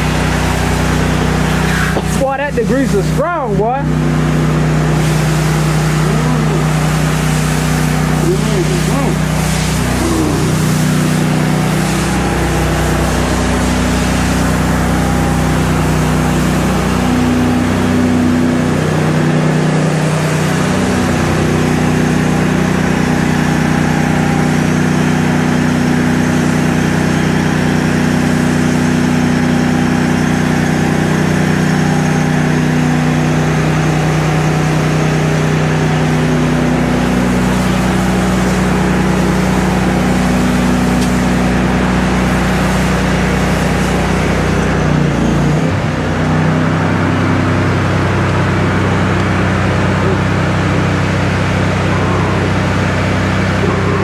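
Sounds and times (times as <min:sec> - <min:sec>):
pressure washer spray hiss: 0:00.0 - 0:44.9
petrol engine running: 0:00.0 - 0:54.0.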